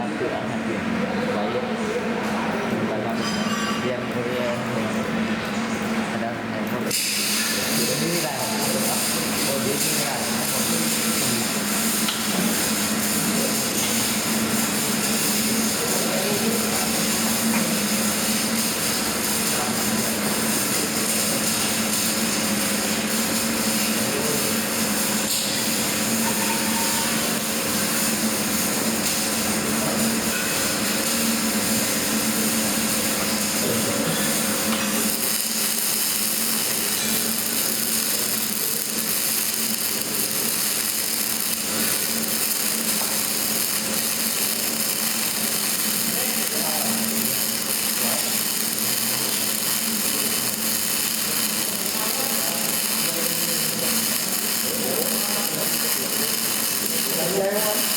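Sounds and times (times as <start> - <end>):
arc welding crackling hiss: 6.9 - 57.9.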